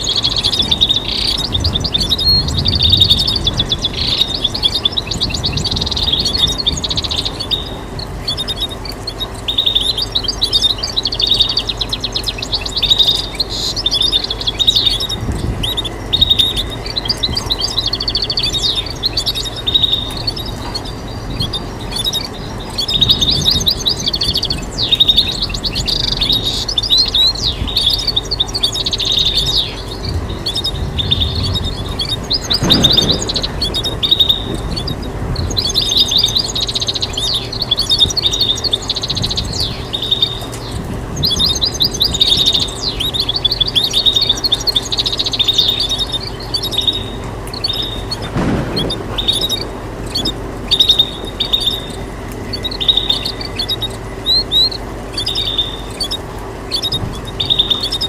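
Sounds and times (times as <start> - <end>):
goldfinch twittering trills: 0.0 - 58.0.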